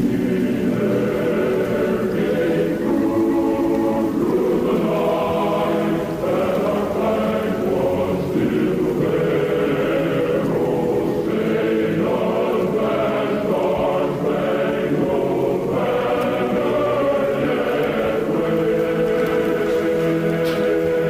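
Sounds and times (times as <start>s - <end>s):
choir singing chant-like chords: 0.0s - 21.0s.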